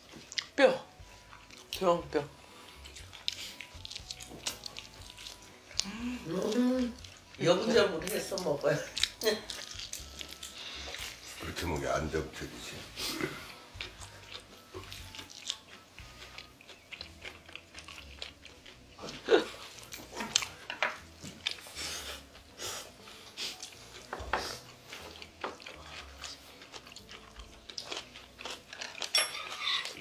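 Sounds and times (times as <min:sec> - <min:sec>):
biting and chewing: 0:00.0 - 0:01.9, 0:02.6 - 0:30.0.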